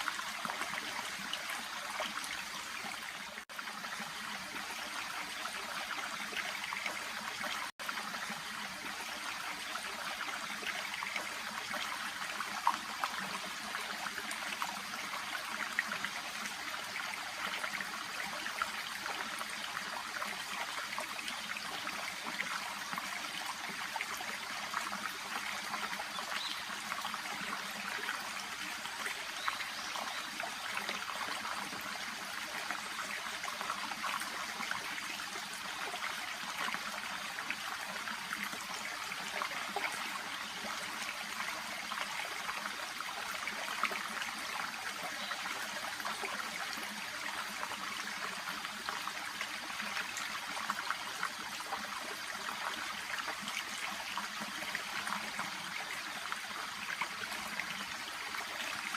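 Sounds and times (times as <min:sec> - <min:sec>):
brook trickling over stones: 0:00.0 - 0:58.9.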